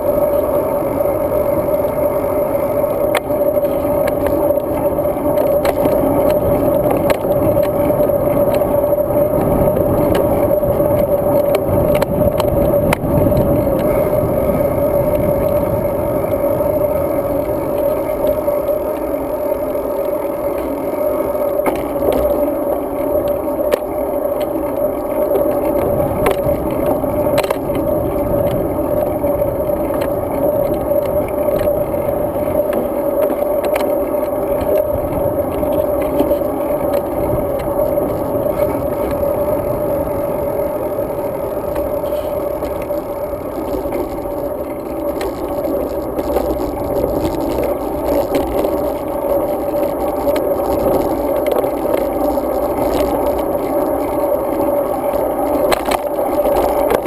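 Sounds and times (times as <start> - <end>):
bike road and wind noise: 0.0 - 57.0
small clicks and rattles: 2.8 - 40.0, 40.9 - 57.0.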